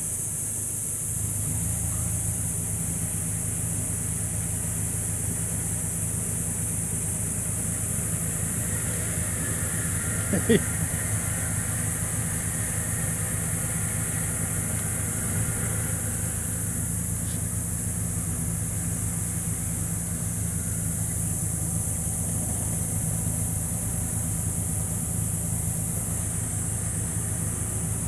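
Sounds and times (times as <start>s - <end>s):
high hiss: 0.0s - 28.0s
low engine hum: 0.0s - 28.0s.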